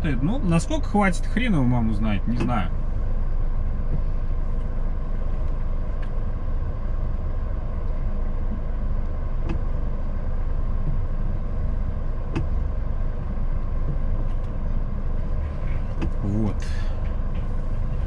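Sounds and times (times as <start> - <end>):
truck diesel engine rumbling: 0.0 - 18.0.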